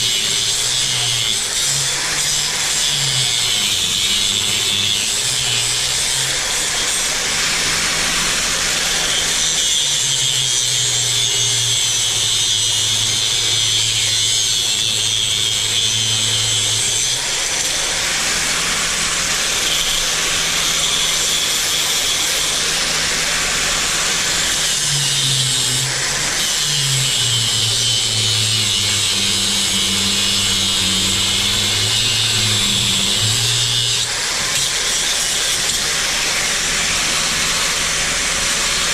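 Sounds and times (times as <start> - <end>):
power drill boring: 0.0 - 38.9.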